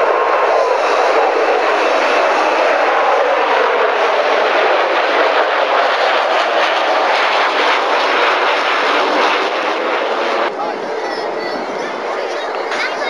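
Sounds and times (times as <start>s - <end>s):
jet engines passing low overhead: 0.0s - 13.0s.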